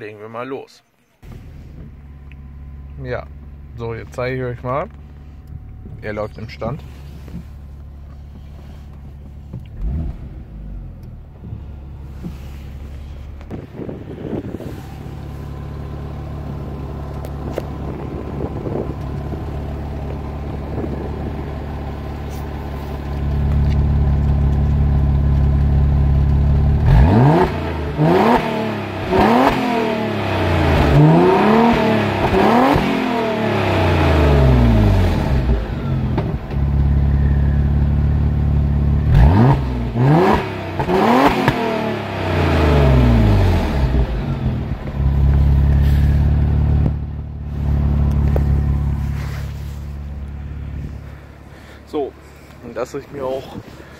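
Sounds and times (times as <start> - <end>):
car engine idling and revving: 1.2 - 53.9.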